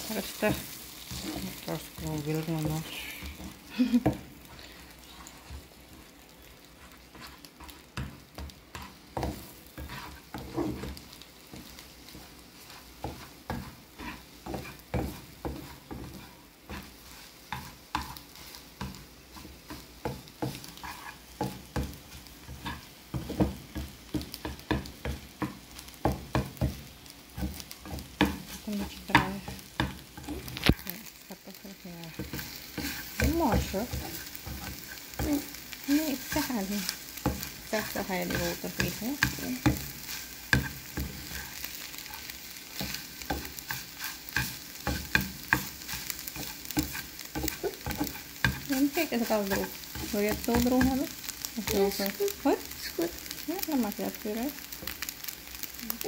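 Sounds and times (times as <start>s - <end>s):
spatula scraping and tapping pan: 0.0s - 31.2s, 32.1s - 55.7s
faint sizzle: 0.0s - 56.0s.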